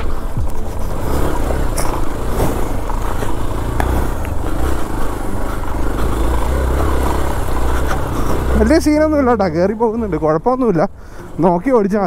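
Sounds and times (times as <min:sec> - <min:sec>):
motorcycle engine running under load: 0:00.0 - 0:12.0.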